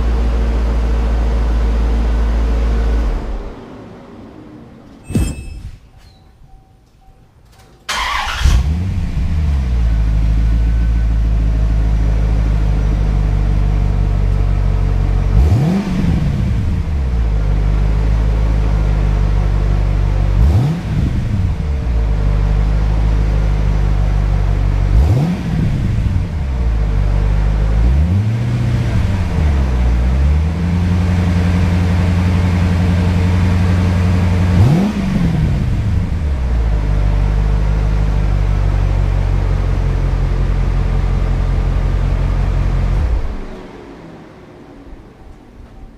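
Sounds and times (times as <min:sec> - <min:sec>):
car engine starting and idling: 0:00.0 - 0:45.9
engine throttle revs: 0:07.9 - 0:45.9.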